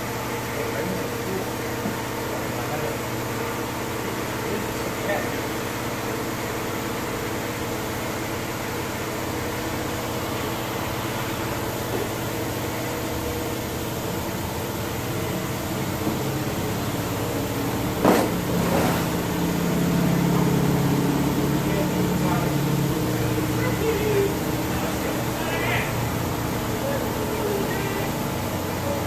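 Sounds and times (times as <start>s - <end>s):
machinery humming: 0.0s - 29.0s.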